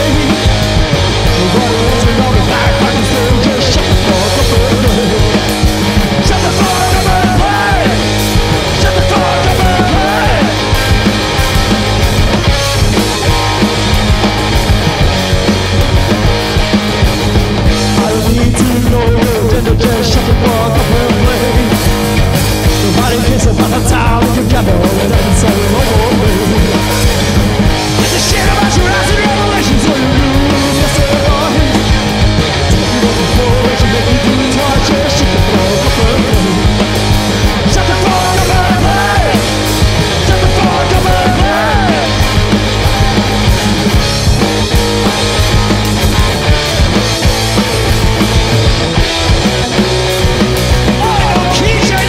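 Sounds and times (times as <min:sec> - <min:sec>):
drum kit: 0:00.0 - 0:52.0
electric guitar: 0:00.0 - 0:52.0.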